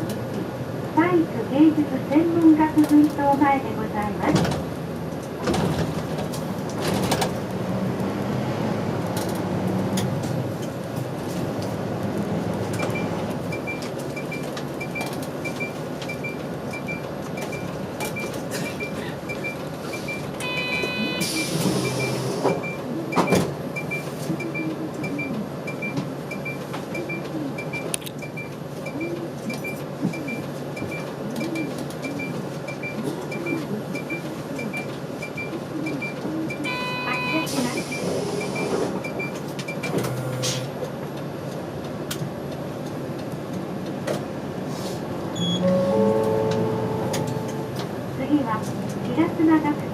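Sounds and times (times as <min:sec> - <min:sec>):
bus engine and road noise: 0:00.0 - 0:49.9.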